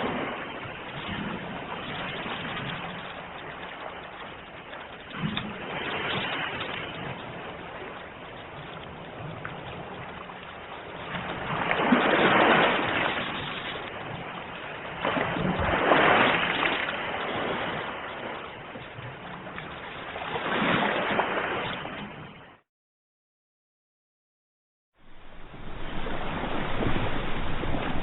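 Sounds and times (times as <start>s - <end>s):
ocean waves breaking: 0.0s - 22.6s, 25.0s - 28.0s.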